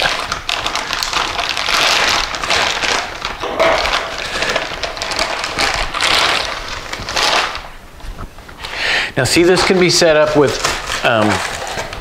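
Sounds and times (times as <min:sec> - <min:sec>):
packing material crinkling: 0:00.0 - 0:12.0.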